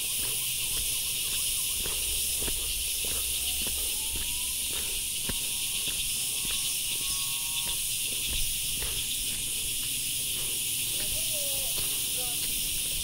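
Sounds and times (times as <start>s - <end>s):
cicadas droning: 0.0s - 13.0s
footsteps on dirt path: 0.0s - 13.0s.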